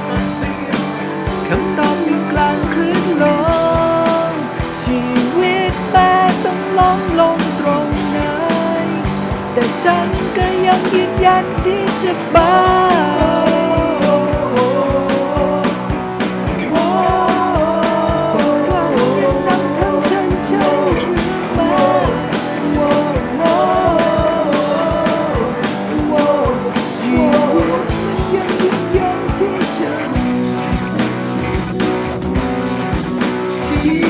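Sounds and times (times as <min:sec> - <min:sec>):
bending melodic lead line: 0:00.0 - 0:34.0
drum kit: 0:00.0 - 0:34.0
rock band playing: 0:00.0 - 0:34.0.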